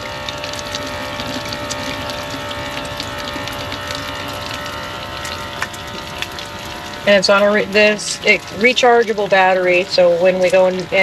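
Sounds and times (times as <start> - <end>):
electric water pump humming: 0.0 - 11.0
water splashing into container: 0.0 - 11.0.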